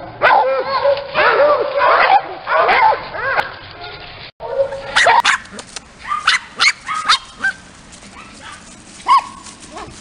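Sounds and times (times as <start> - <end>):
dog yipping: 0.2 - 3.6, 4.4 - 10.0.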